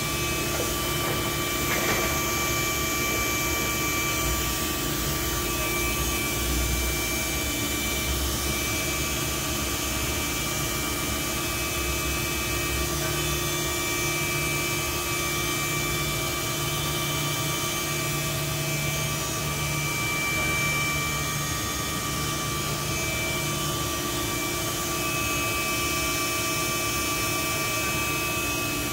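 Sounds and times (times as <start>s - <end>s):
machine mechanical hum: 0.0s - 28.9s.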